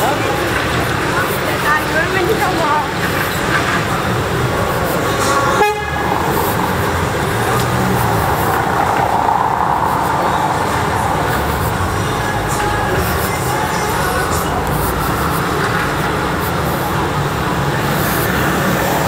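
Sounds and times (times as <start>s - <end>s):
busy street traffic: 0.0s - 19.0s.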